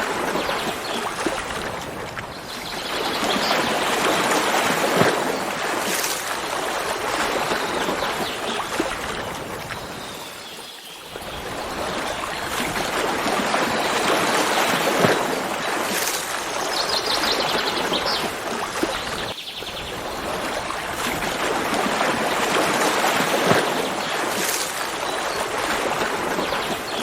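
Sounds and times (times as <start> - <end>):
stream water running: 0.0 - 27.0.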